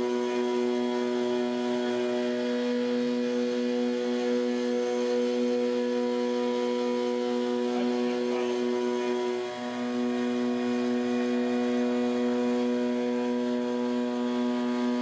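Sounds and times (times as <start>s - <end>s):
milling machine whine: 0.0s - 15.0s.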